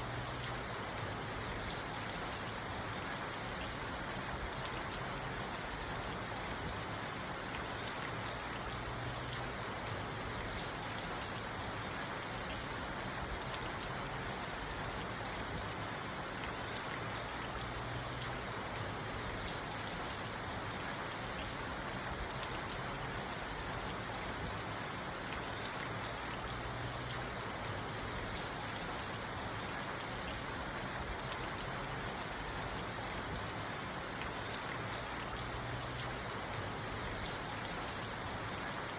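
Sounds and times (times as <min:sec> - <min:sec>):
rain on a car roof: 0:00.0 - 0:38.9.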